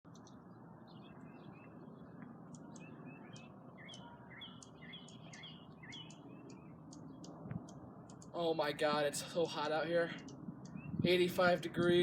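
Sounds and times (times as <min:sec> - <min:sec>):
birds chirping faintly: 0:00.1 - 0:12.0.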